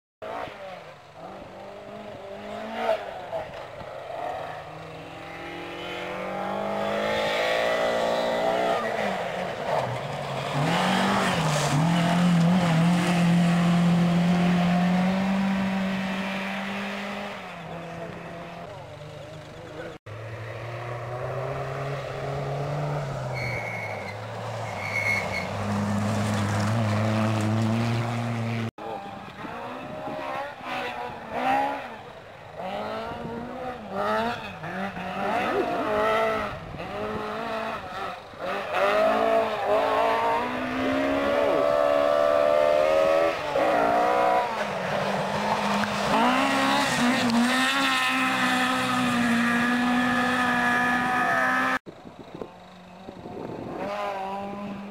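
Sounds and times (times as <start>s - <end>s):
rally car engines revving: 0.2s - 54.9s.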